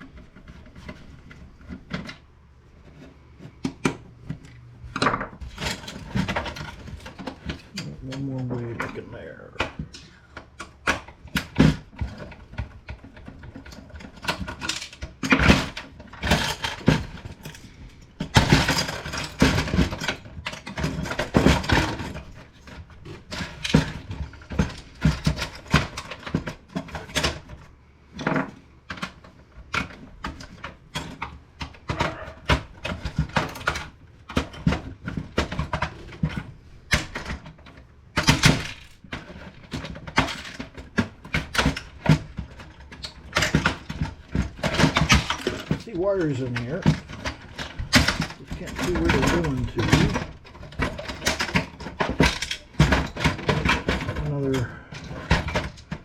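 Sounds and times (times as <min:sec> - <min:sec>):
plastic parts clicking and cracking: 0:00.0 - 0:56.0.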